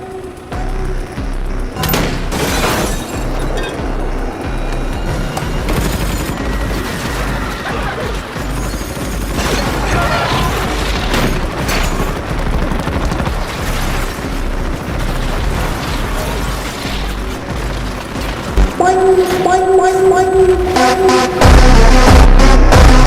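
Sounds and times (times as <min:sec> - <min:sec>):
dramatic soundtrack music: 0:00.0 - 0:23.0.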